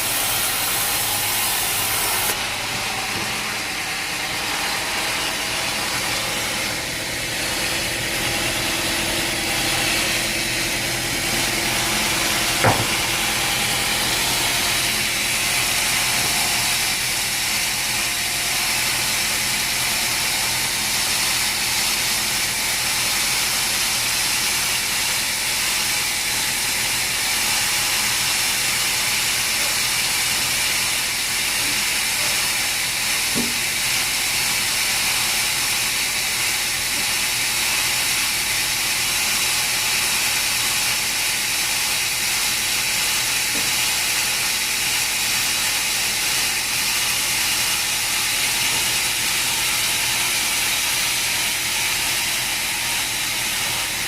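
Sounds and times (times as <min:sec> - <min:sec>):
sawmill machinery hissing: 0:00.0 - 0:54.0.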